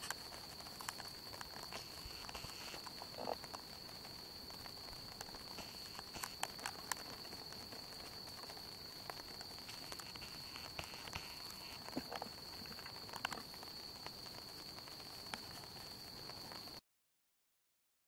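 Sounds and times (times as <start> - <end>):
campfire crackling: 0.0 - 16.8.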